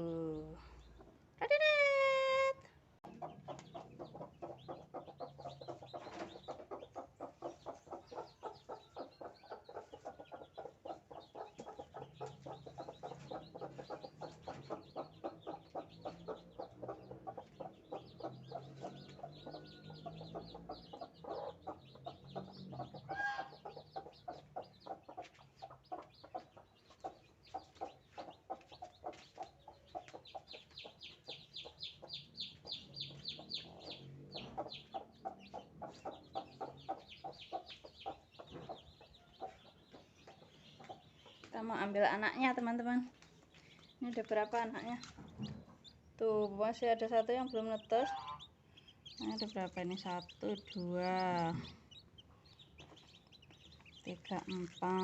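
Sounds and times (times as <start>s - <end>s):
chicks peeping: 0.4s - 55.0s
hen clucking: 0.8s - 55.0s.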